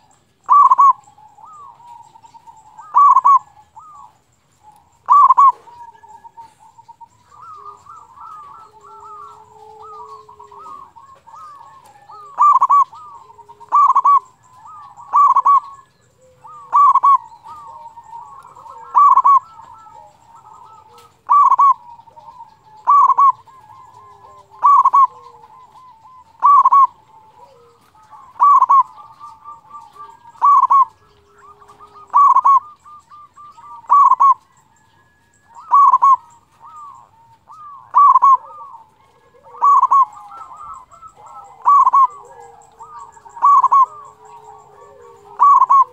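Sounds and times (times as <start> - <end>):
dove cooing: 0.0 - 45.9
loud ringing dove call: 0.0 - 45.9.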